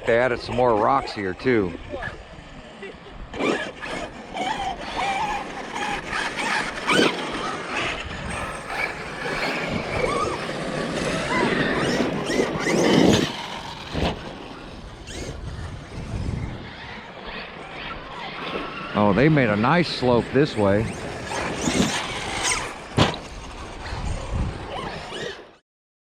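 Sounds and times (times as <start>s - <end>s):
rc car motor whine: 0.1s - 25.6s
tires churning over gravel: 3.3s - 25.6s.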